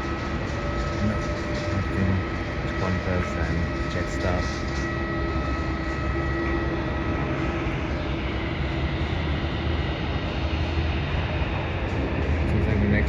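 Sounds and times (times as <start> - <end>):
faint steady whine: 0.0 - 13.0
jet engines rumbling: 0.0 - 13.0.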